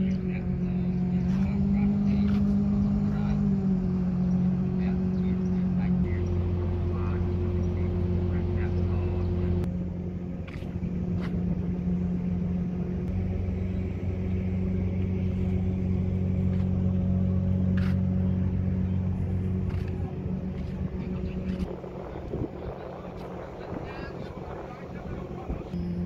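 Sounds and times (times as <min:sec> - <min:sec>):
ferry engine low drone: 0:00.0 - 0:26.0.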